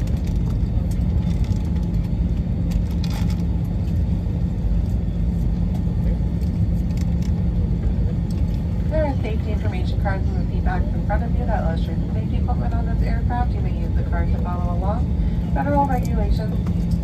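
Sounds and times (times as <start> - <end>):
airliner cabin rumble: 0.0 - 17.0
constant hum: 0.0 - 17.0.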